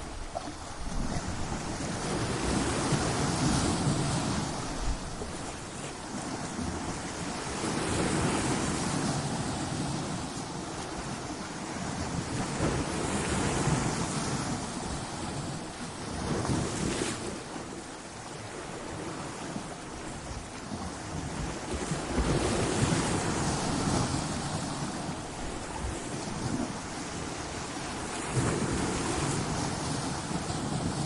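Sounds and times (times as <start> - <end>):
waves breaking on rocks: 0.0 - 31.0.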